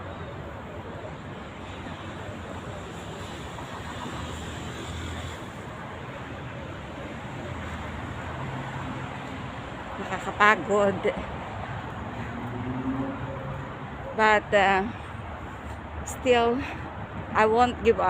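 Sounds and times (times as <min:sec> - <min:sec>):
car and tyre noise: 0:00.0 - 0:16.1.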